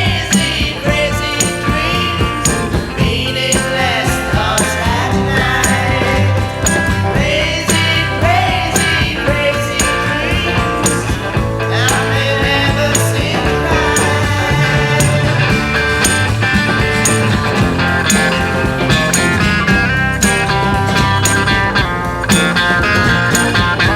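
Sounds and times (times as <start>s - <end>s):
drums on cymbals: 0.0s - 23.9s
psychedelic rock band: 0.0s - 23.9s.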